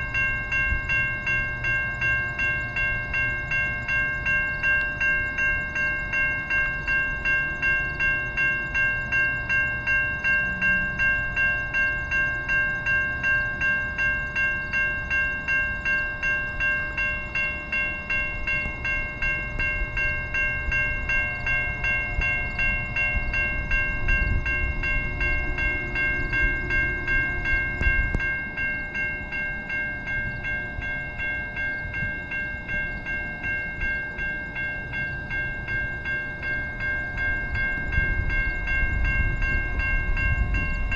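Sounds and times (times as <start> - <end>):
level-crossing warning bell ringing: 0.0 - 40.9
rumble of passing train: 0.0 - 40.9.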